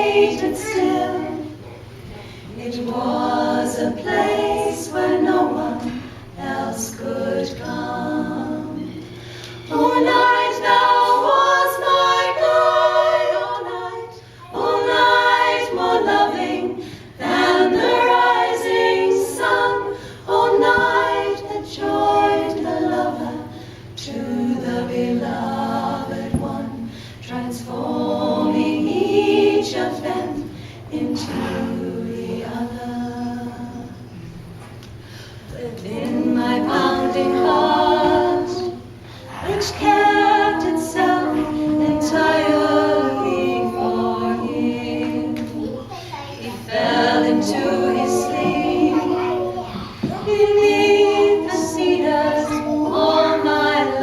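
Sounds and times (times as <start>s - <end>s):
a cappella choir singing: 0.0s - 54.0s.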